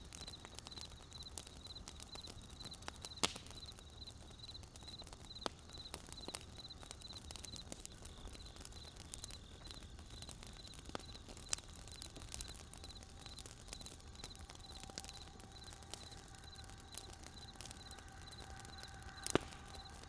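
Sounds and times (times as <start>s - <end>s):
wood fire crackling: 0.0s - 20.0s
faint high pulsed chirping: 3.6s - 20.0s.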